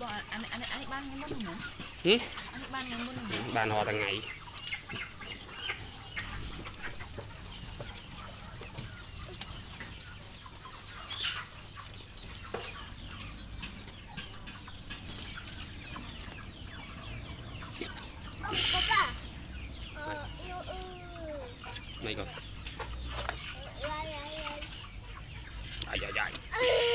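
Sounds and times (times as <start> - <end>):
chickens clucking: 0.0 - 26.9.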